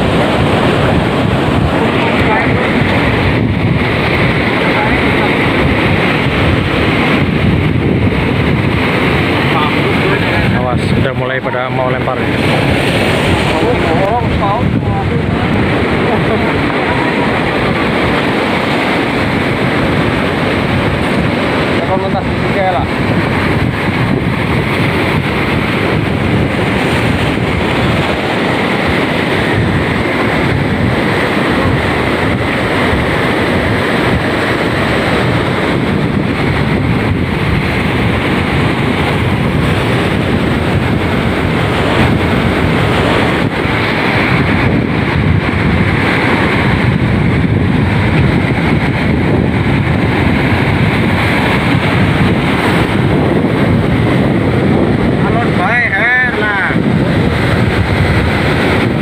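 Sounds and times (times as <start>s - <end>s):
surf breaking on rocks: 0.0s - 59.0s
wind buffeting microphone: 0.0s - 59.0s.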